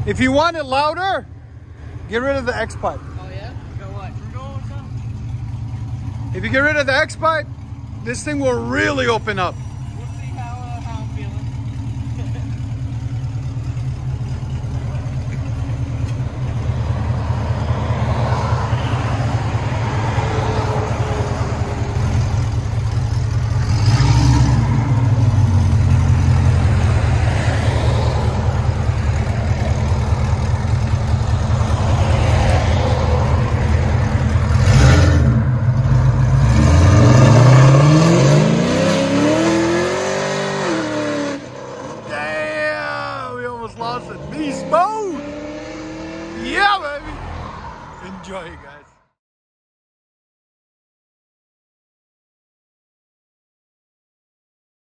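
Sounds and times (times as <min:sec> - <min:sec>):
car engine rumbling and revving: 0:00.0 - 0:49.0.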